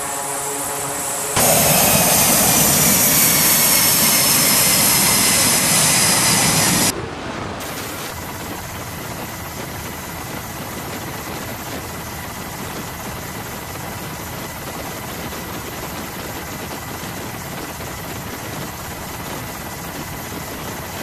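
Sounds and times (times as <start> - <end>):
helicopter engine and rotors droning: 0.0 - 7.0, 8.1 - 21.0.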